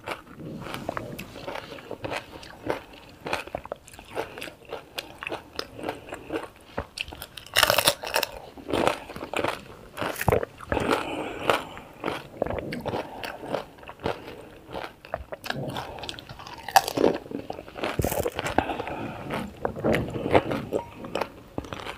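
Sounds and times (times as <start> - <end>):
crisp food crunching: 0.0 - 21.9
wet chewing: 0.0 - 21.9.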